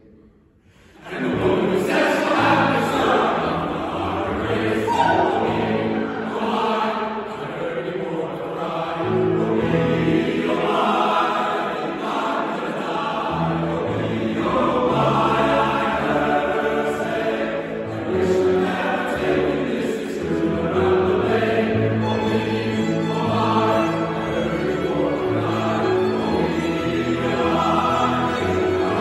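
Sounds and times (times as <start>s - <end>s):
grand piano: 0.8s - 29.0s
male chorus singing in harmony: 0.8s - 29.0s
violin: 1.1s - 7.1s, 8.6s - 29.0s.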